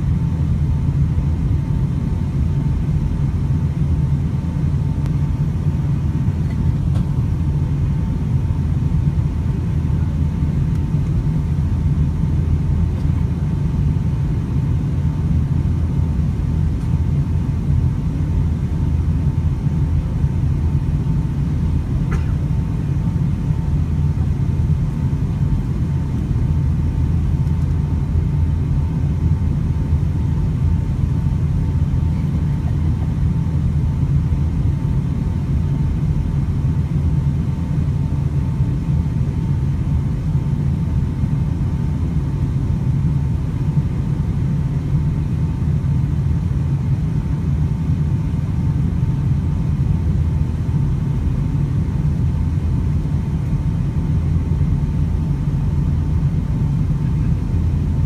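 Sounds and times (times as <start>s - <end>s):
plane engines and rushing air: 0.0s - 58.0s.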